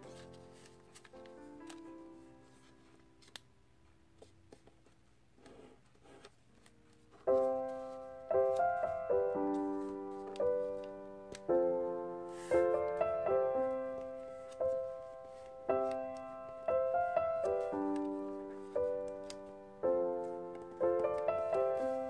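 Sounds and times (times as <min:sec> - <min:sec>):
paper rustling and crinkling: 0:00.0 - 0:03.4, 0:05.9 - 0:11.5, 0:12.2 - 0:16.6, 0:17.3 - 0:22.0
piano music: 0:00.0 - 0:04.2, 0:06.5 - 0:22.0.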